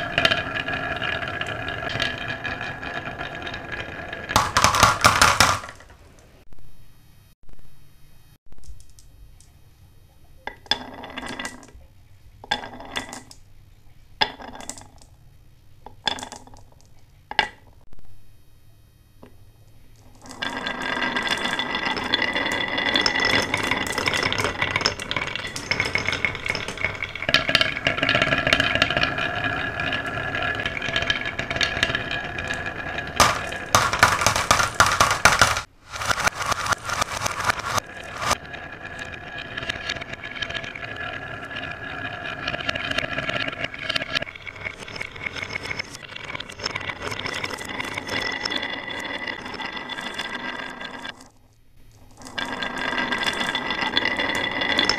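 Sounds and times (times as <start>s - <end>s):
marbles clinking and rolling: 0.0s - 5.9s, 10.5s - 11.8s, 14.2s - 15.2s, 15.9s - 17.8s, 20.0s - 54.9s.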